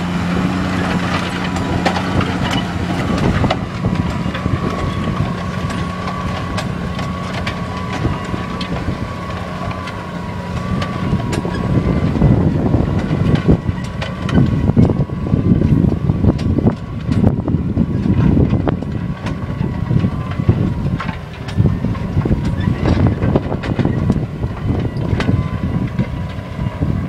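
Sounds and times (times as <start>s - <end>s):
cultivator discs rumbling: 0.0s - 27.0s
tractor engine under load: 0.0s - 27.0s.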